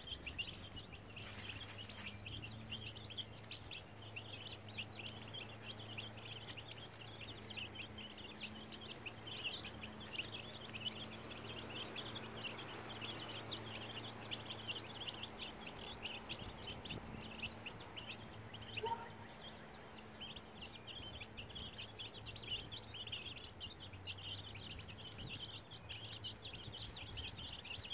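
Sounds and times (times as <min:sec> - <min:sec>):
baby chicks peeping: 0:00.0 - 0:27.9.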